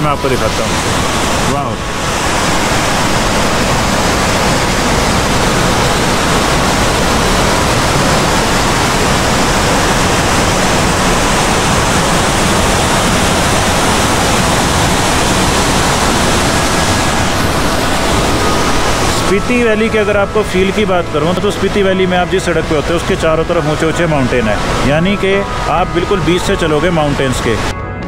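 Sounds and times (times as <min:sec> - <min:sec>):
waterfall rushing: 0:00.0 - 0:27.7.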